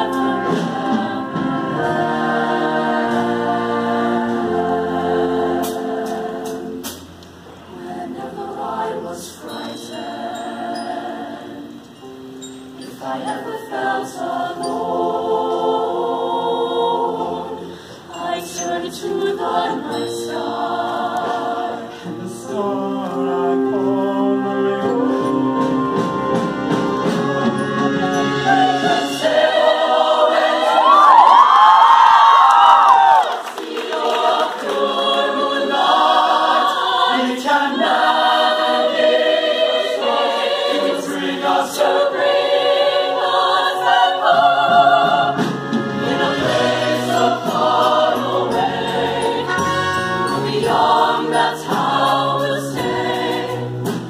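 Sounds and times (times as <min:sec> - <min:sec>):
mixed choir singing in harmony: 0:00.0 - 0:54.0.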